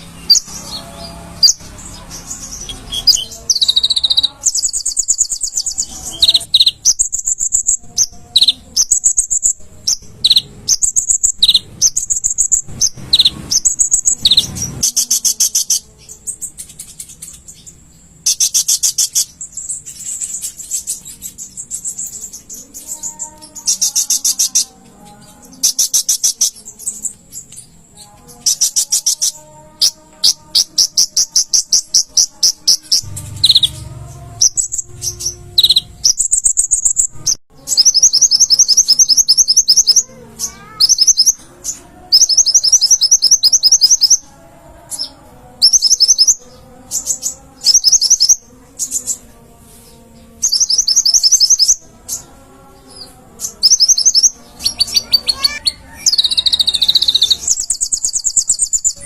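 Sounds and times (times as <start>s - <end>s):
sunbird trilled chirps: 0.0s - 49.2s, 53.4s - 59.0s.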